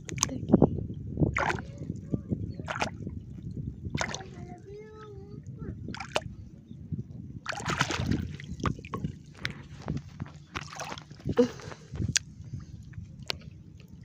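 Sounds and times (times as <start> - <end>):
shallow water splashing: 0.0 - 14.0.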